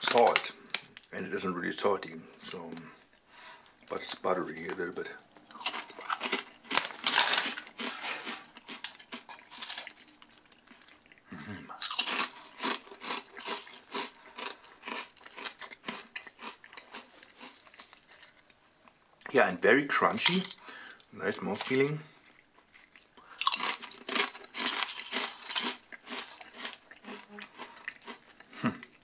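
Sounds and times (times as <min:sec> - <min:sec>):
potato crisps crunching: 0:00.0 - 0:01.1, 0:03.9 - 0:18.6, 0:20.2 - 0:29.0.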